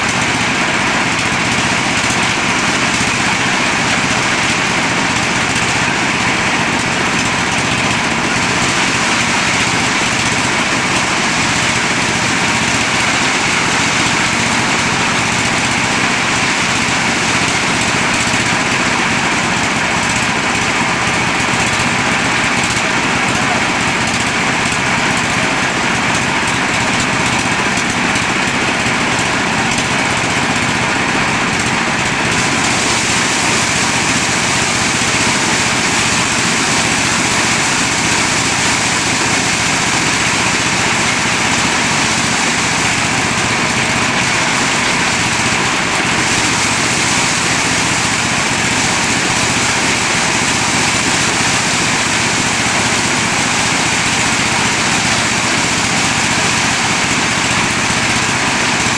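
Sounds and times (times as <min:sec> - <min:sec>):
corn sheller machine running: 0:00.0 - 0:58.9.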